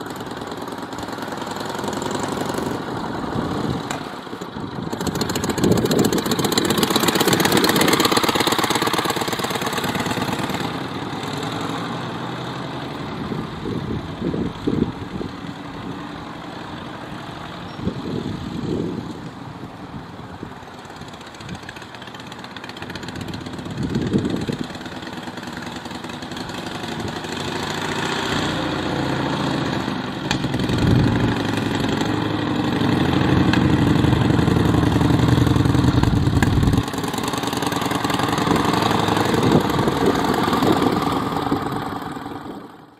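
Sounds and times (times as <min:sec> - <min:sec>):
motorcycle engine passing: 0:00.0 - 0:19.0, 0:20.7 - 0:42.9.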